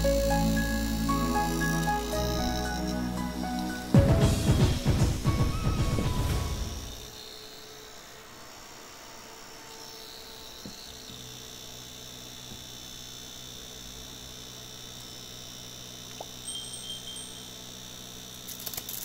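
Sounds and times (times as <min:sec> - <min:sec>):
computer fan humming: 0:00.0 - 0:19.0.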